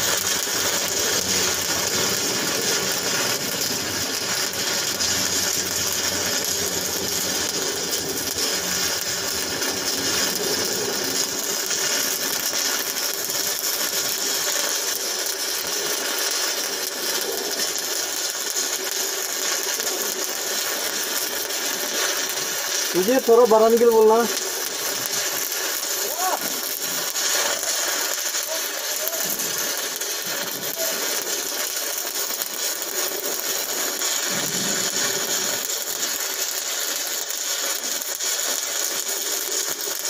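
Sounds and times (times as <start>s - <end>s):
welding arc crackling: 0.0s - 40.0s.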